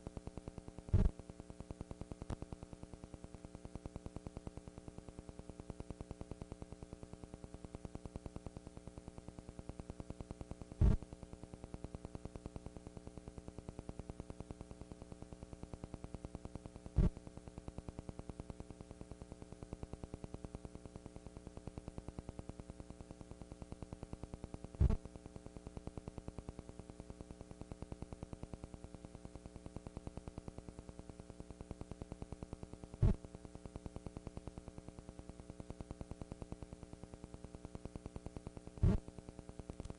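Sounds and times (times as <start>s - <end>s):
electrical hum and buzz: 0.0s - 39.9s
static hiss: 0.0s - 39.9s.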